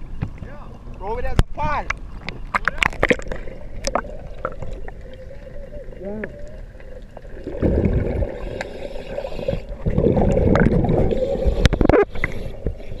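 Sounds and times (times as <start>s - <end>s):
water gurgling and sloshing: 0.0s - 13.0s.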